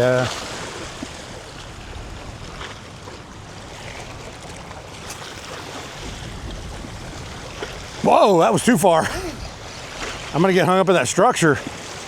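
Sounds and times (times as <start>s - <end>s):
water lapping at shore: 0.0s - 12.0s
wind buffeting microphone: 0.6s - 10.3s.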